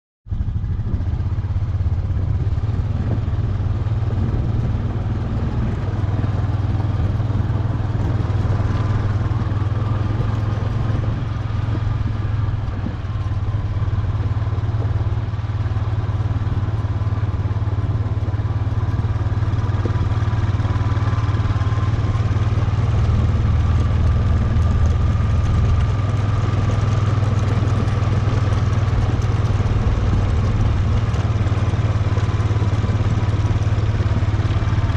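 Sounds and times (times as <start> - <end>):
faint engine whine: 0.3 - 34.9
quad engine droning: 0.3 - 34.9.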